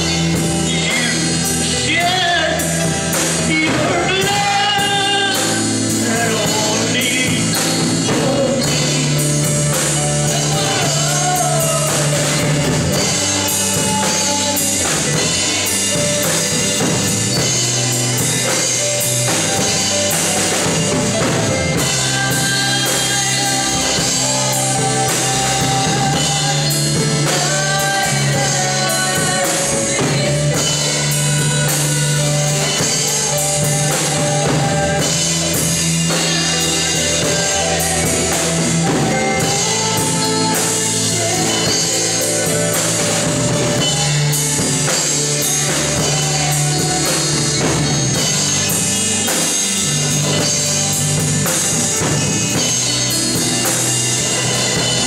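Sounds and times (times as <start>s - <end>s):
drum kit beat: 0.0s - 55.0s
person singing: 0.0s - 55.0s.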